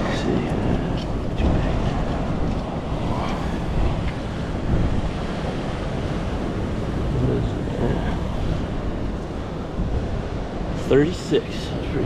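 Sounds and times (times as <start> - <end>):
surf against rocks: 0.0 - 12.0
wind buffeting microphone: 0.0 - 12.0.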